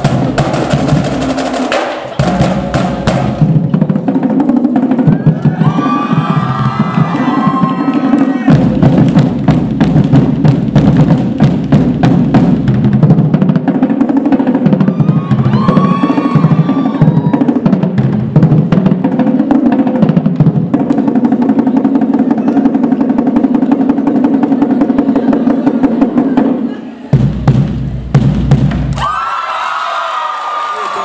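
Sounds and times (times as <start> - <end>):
marching drumline cadence: 0.0 - 29.7.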